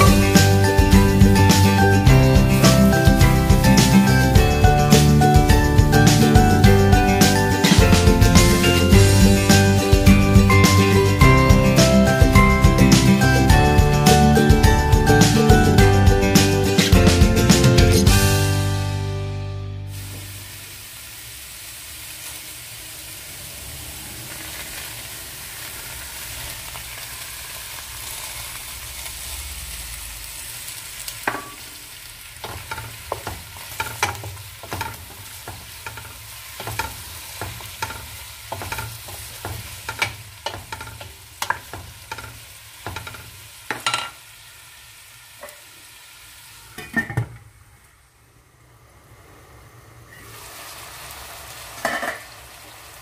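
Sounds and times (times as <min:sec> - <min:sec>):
onions sizzling in oil: 0:00.0 - 0:53.0.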